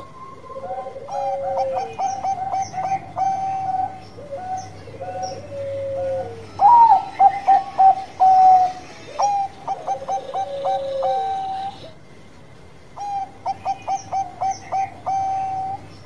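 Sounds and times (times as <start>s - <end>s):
dove cooing: 0.0s - 12.0s, 13.0s - 16.0s.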